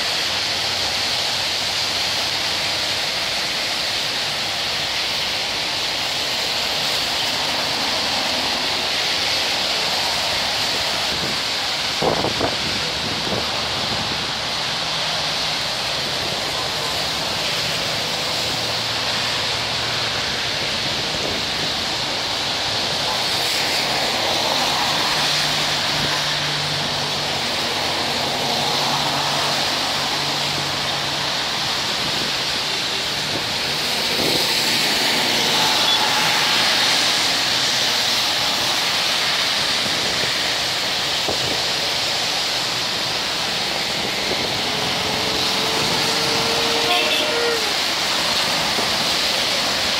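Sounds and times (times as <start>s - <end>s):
road traffic: 0.0s - 49.9s
wind: 0.0s - 49.9s.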